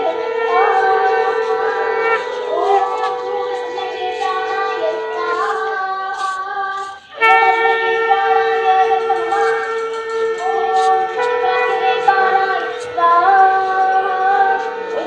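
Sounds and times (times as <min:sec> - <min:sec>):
high voice singing: 0:00.0 - 0:15.0
steady drone: 0:00.0 - 0:15.0.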